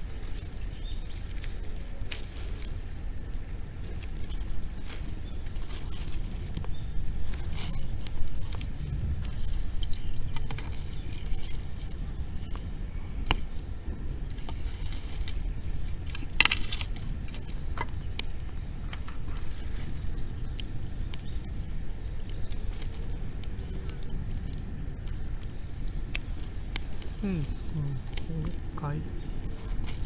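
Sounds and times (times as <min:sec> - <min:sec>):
bonfire crackling and popping: 0:00.0 - 0:30.0
low fire rumble: 0:00.0 - 0:30.0.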